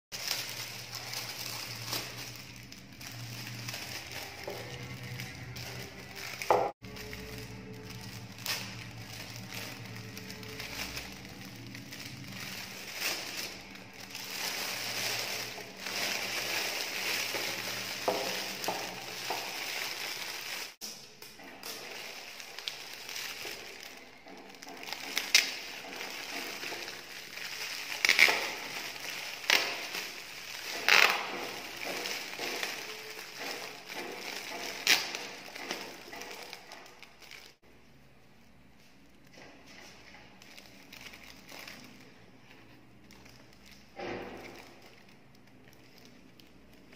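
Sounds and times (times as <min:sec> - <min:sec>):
foil wrap crinkling and rustling: 0:00.1 - 0:37.7, 0:38.8 - 0:46.9.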